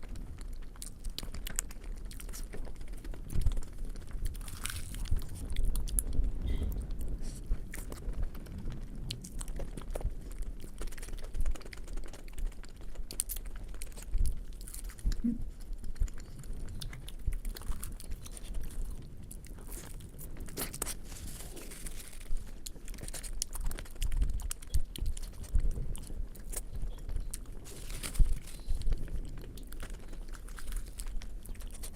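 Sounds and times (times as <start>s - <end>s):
mouth clicks and smacks: 0.0s - 31.9s
person chewing food: 0.0s - 31.9s.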